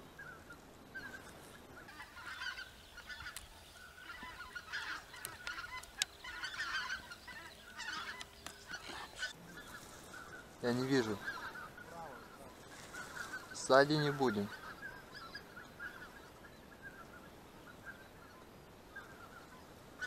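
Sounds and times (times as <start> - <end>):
geese honking: 0.2 - 20.0.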